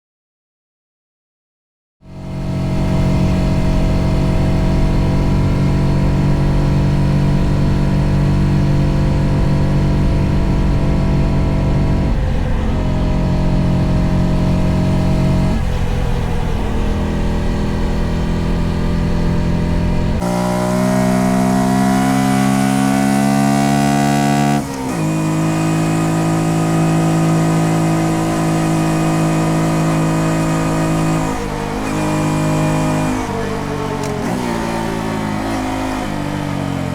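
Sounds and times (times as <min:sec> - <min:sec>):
motorcycle engine running: 0:02.0 - 0:36.9.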